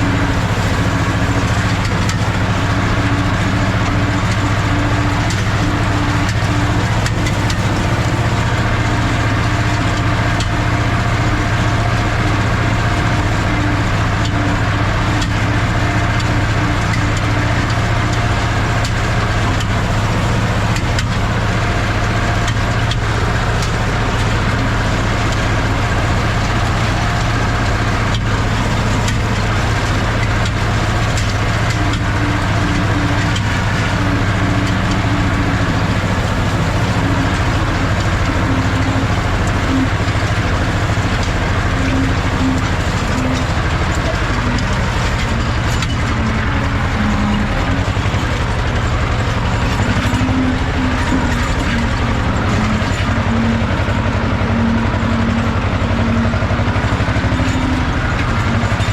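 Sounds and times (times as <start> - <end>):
diesel tractor engine running: 0.0 - 58.9.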